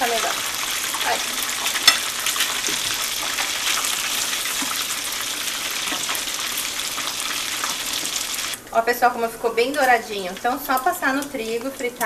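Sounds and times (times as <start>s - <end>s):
fish deep-frying in hot oil: 0.0s - 8.6s, 9.8s - 12.0s.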